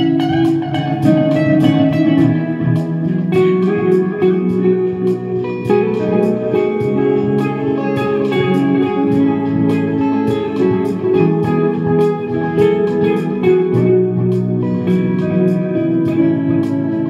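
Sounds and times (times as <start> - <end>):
electric guitar melody: 0.0 - 17.0
steady percussive beat: 0.0 - 17.0.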